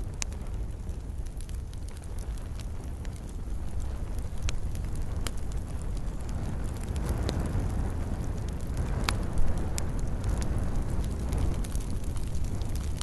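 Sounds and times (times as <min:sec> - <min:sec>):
fire crackles and pops: 0:00.0 - 0:13.0
wood fire rumbling: 0:00.0 - 0:13.0.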